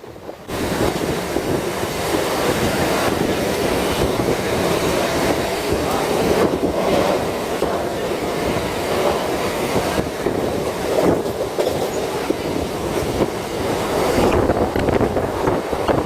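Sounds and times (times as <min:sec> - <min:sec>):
moving vehicle rumbling: 0:00.0 - 0:16.0.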